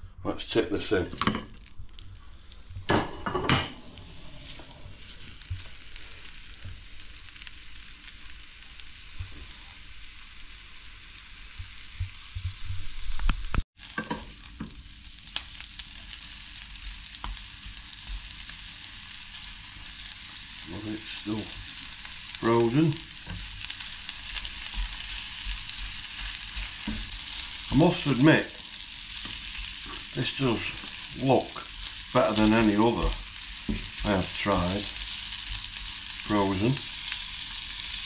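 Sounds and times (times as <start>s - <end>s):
meat sizzling in frying pan: 0.9s - 38.0s.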